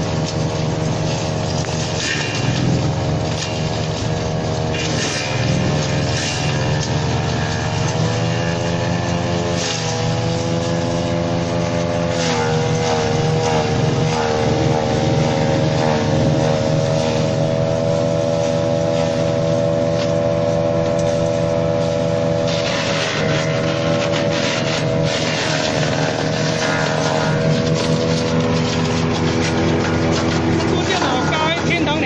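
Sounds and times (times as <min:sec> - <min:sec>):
branch shredder engine running: 0:00.0 - 0:32.0.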